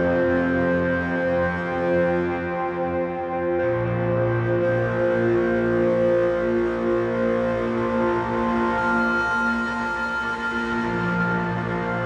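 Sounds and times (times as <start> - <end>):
sustained layered chords music: 0.0 - 12.0.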